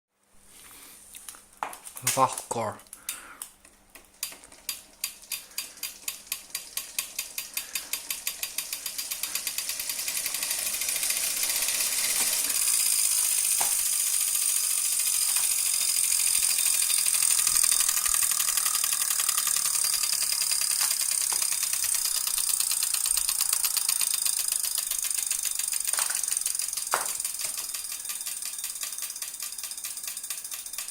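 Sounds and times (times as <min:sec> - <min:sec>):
bike trainer clicking and ratcheting: 0:02.9 - 0:30.9.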